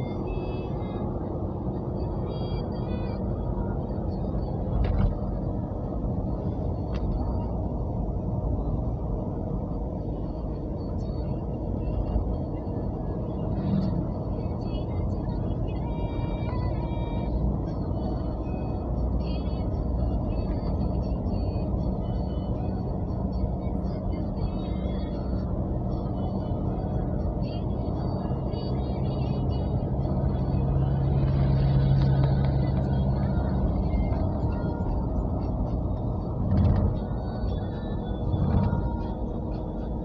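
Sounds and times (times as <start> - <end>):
car road noise rumble: 0.0 - 40.0
low engine hum: 0.0 - 40.0.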